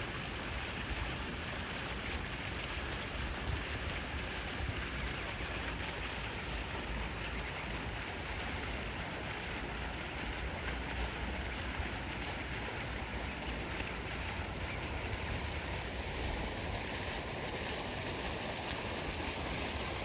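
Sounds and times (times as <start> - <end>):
outdoor background rush: 0.0 - 20.0.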